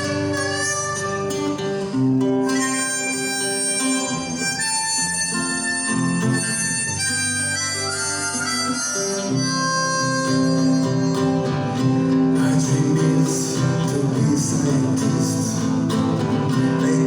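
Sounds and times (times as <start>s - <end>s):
acoustic guitar accompaniment: 0.0s - 17.0s
harmonica melody: 0.0s - 17.0s.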